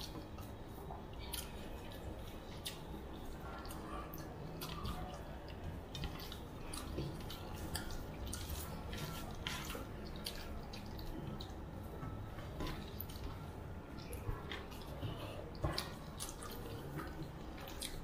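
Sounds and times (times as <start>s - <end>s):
wet chewing smacks: 0.0s - 18.0s.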